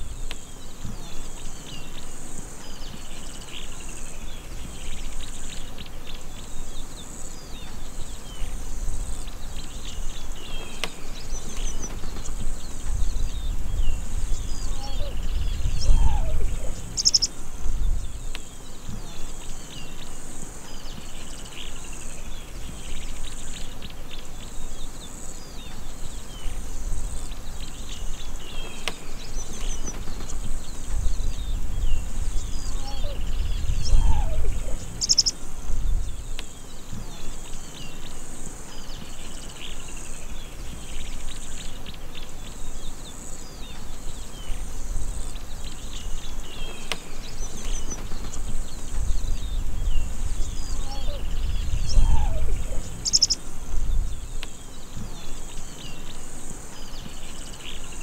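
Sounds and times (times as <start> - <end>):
high insect buzz: 0.0 - 58.0
small birds chirping: 0.0 - 58.0.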